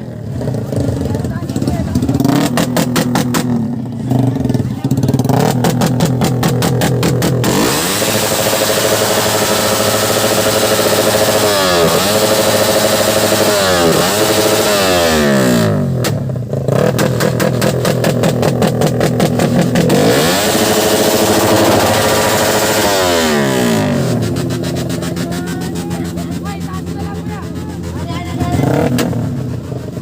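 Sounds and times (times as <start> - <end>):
rapid stuttering rattle: 0.0 - 14.7, 16.7 - 30.0
racing motorcycle engine revving: 0.0 - 30.0.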